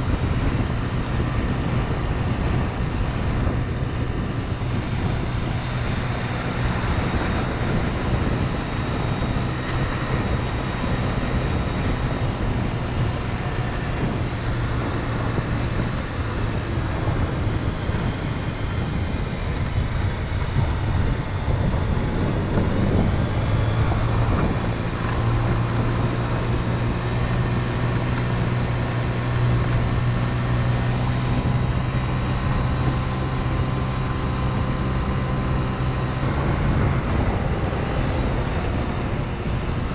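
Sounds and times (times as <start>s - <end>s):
wind and road noise: 0.0s - 39.9s
motor scooter engine running: 0.1s - 39.9s.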